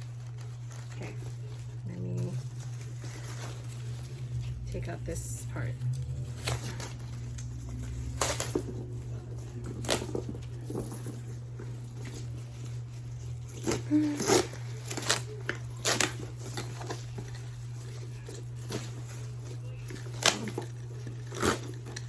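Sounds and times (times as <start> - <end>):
packing material rustling: 0.0 - 22.0
steady low hum: 0.0 - 22.0.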